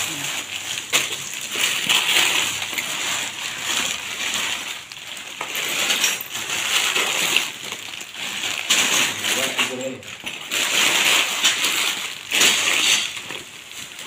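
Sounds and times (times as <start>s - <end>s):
plastic bags crinkling: 0.0s - 14.0s
plastic bricks clattering: 0.0s - 14.0s.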